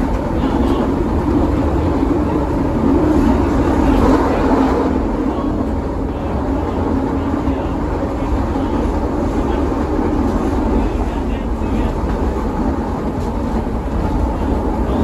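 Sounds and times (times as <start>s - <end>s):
train wheels on track: 0.0s - 15.0s.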